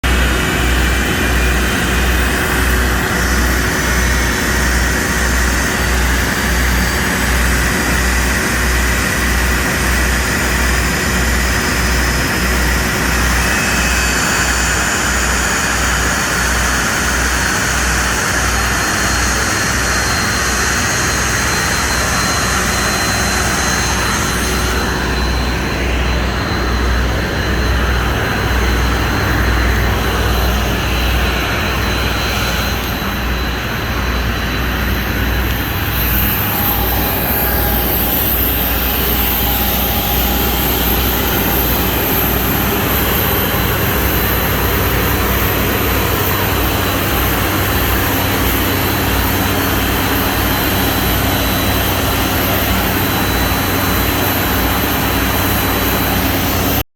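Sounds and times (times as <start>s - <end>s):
jet engine running: 0.0s - 56.9s.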